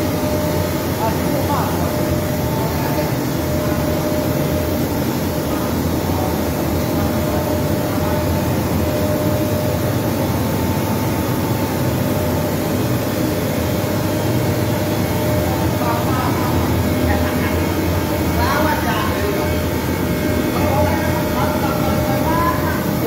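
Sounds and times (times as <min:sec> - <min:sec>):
faint steady whine: 0:00.0 - 0:23.0
machinery mechanical drone: 0:00.0 - 0:23.0.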